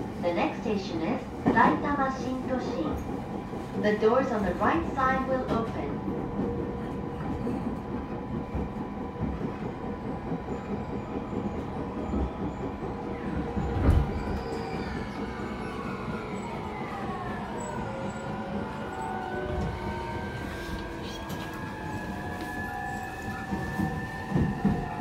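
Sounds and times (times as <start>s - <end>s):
train inverter whine: 0.0s - 25.0s
train wheels rumbling on rails: 0.0s - 25.0s.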